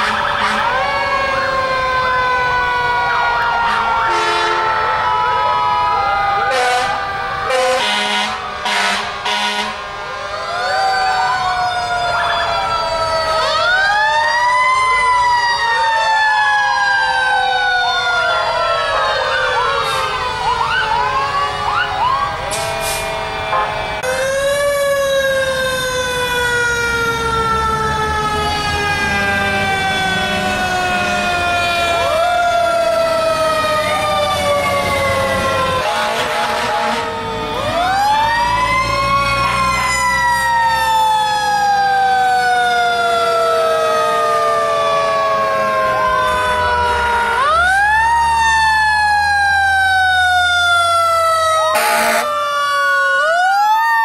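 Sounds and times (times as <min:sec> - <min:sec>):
fire engine sirens: 0:00.0 - 0:54.0
fire truck engine rumble: 0:00.0 - 0:54.0.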